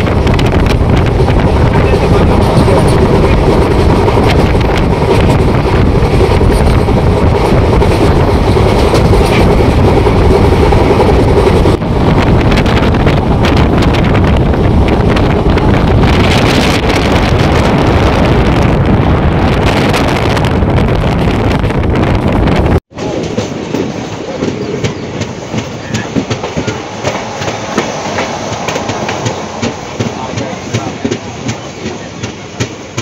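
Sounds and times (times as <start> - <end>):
express train running: 0.0 - 33.0
wind on microphone: 0.0 - 33.0.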